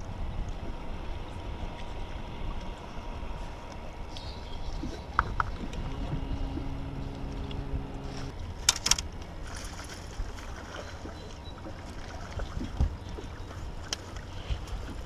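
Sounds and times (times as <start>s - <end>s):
low hum: 0.0s - 15.0s
water slapping boat hull: 0.0s - 15.0s
wind buffeting microphone: 0.0s - 15.0s.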